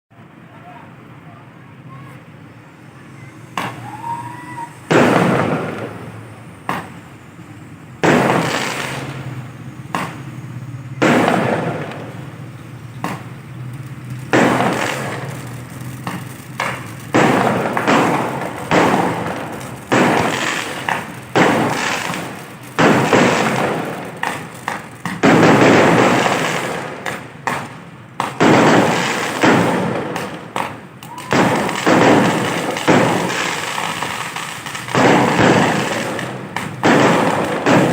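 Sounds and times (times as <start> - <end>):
fireworks exploding: 0.6 - 37.9.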